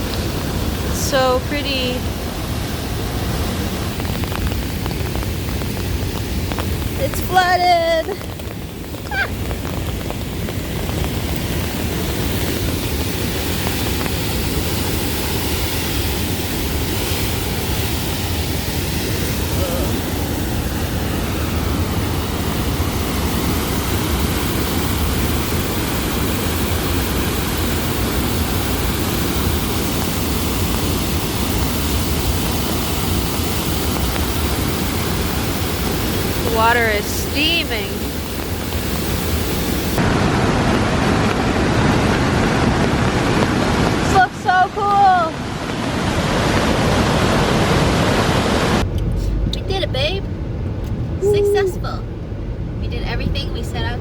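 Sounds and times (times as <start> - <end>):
waterfall rushing: 0.0 - 48.8.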